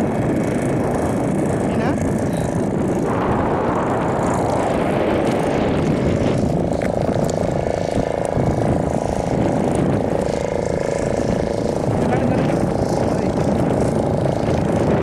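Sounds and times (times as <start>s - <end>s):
constant low rumble: 0.0s - 15.0s
motor droning: 0.0s - 15.0s.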